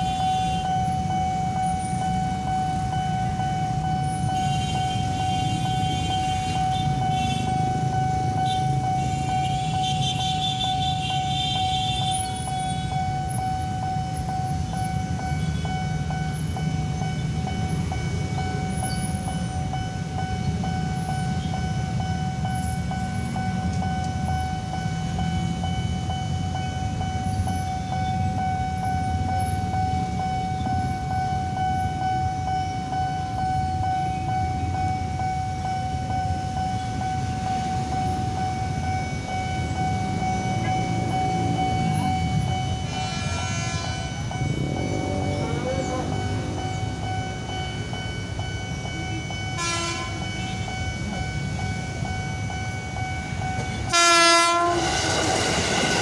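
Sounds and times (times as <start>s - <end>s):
electric train rumbling: 0.0s - 56.0s
level crossing alarm tone: 0.0s - 56.0s.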